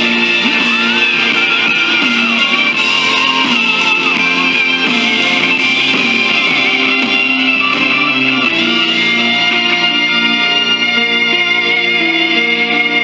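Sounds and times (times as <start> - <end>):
music with held chords: 0.0 - 13.0.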